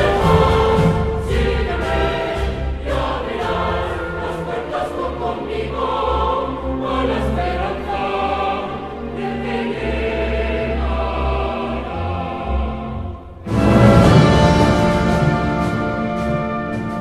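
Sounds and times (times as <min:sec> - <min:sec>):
instrumental accompaniment: 0:00.0 - 0:08.0, 0:10.9 - 0:17.0
choir singing held notes: 0:00.0 - 0:17.0.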